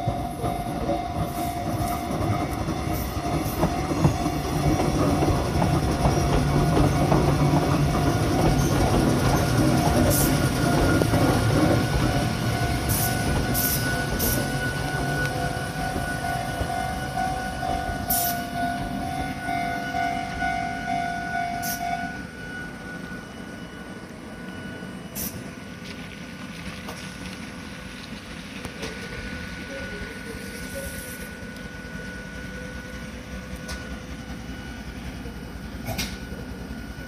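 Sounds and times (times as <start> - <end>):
low train hum: 0.0 - 37.0
train wheels rumbling: 0.0 - 37.0.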